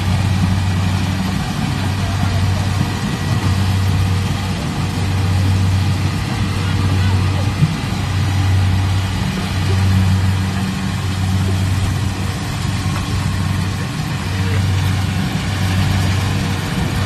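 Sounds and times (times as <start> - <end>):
combine harvester diesel engine humming: 0.0 - 17.0.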